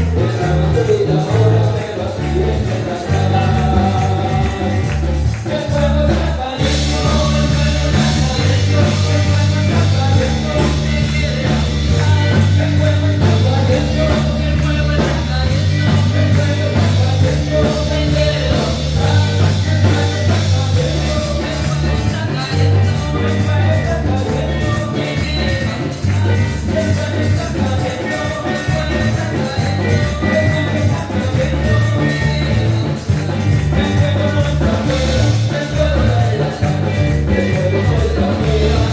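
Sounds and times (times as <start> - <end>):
drum beat: 0.0 - 38.9
heavy bass line: 0.0 - 38.9
upbeat band music: 0.0 - 38.9.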